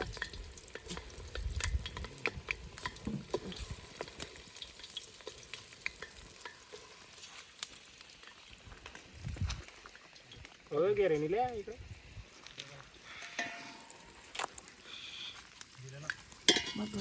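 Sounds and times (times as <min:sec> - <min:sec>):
food frying in hot oil: 0:00.0 - 0:17.0.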